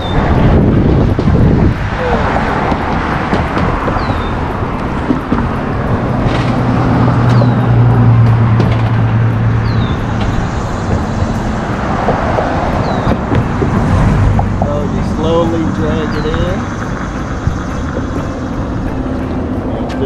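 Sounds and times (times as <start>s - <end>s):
road traffic noise: 0.0s - 20.0s
vehicle engine passing: 0.0s - 20.0s.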